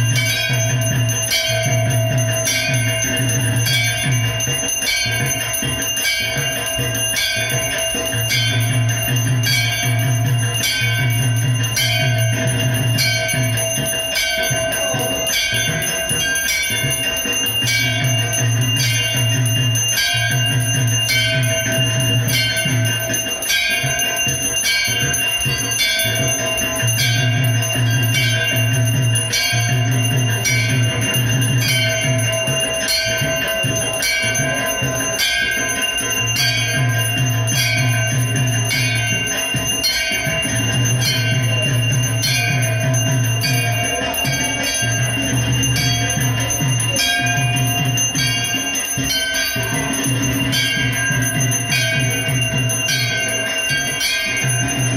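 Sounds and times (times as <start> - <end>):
temple bells ringing: 0.0 - 54.9.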